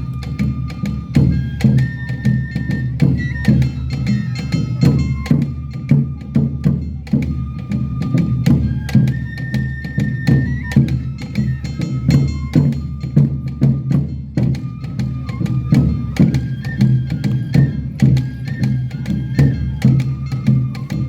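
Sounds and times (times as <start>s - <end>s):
bamboo flute melody: 0.0s - 21.0s
taiko drums beating: 0.0s - 21.0s.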